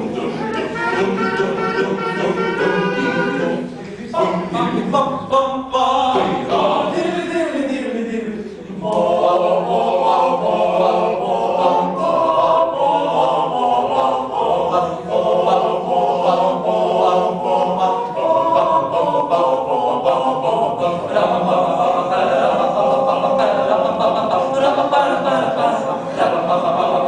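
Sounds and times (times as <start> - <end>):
a cappella choir singing: 0.0 - 27.0.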